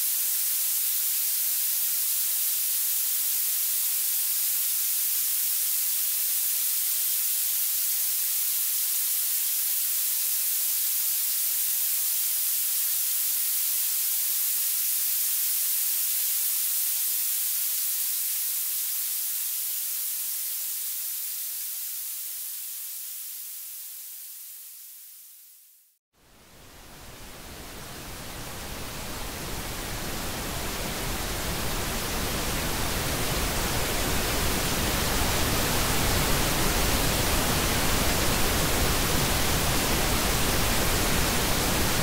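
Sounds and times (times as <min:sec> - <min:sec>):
high-pitched hiss: 0:00.0 - 0:42.0.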